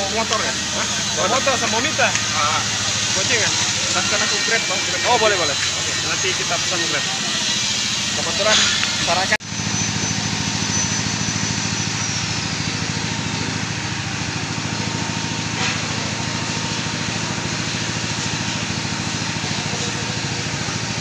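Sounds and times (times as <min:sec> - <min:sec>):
engine idling: 0:00.0 - 0:08.4, 0:09.1 - 0:21.0.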